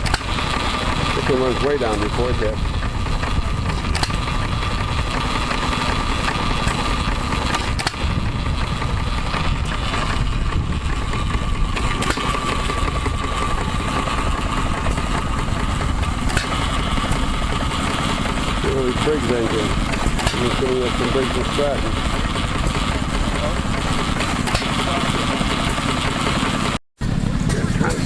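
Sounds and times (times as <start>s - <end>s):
hit-and-miss engine firing: 0.0s - 28.0s
rumble of other engines: 0.0s - 28.0s.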